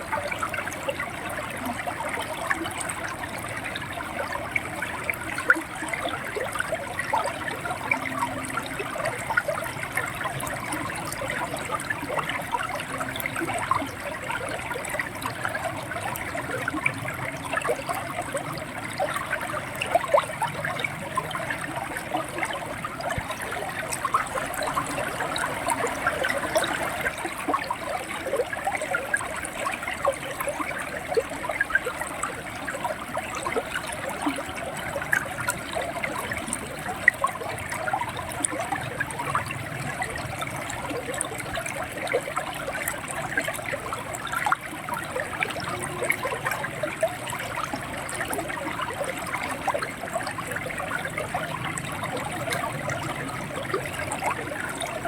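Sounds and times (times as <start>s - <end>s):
river water gurgling: 0.0s - 55.0s
small water splashes: 0.0s - 55.0s.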